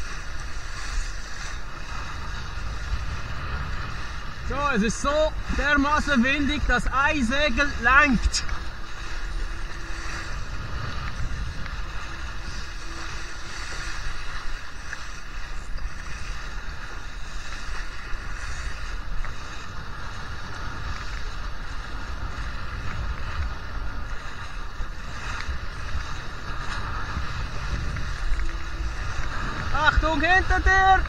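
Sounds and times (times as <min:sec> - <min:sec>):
water splashing along hull: 0:00.0 - 0:31.0
wind rumble on microphone: 0:00.0 - 0:31.0.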